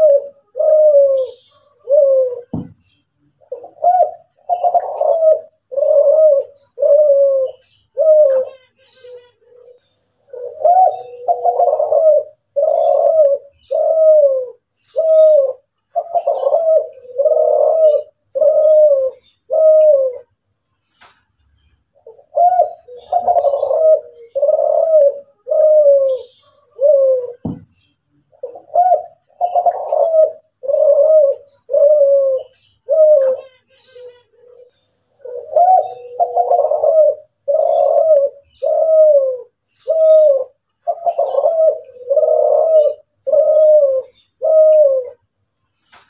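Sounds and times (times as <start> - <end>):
dove cooing: 0.0 - 20.4, 22.0 - 45.3.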